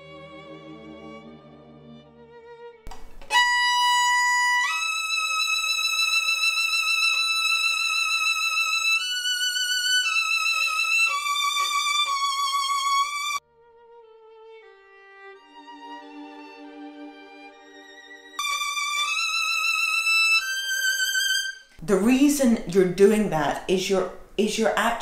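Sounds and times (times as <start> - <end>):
solo violin bowed with heavy pressure: 0.0 - 21.8.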